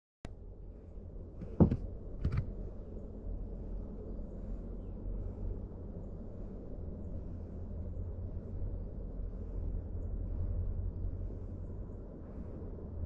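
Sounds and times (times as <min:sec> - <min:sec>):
low outdoor rumble: 0:00.3 - 0:13.0.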